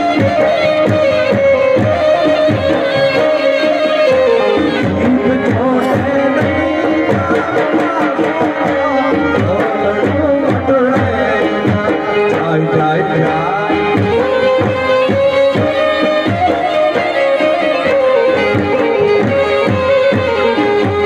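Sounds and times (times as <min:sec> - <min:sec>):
hand drum beat: 0:00.0 - 0:21.0
harmonium melody: 0:00.0 - 0:21.0.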